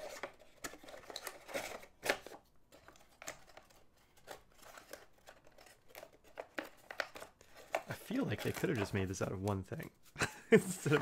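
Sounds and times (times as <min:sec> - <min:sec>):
cardboard packaging rustling: 0:00.0 - 0:09.6.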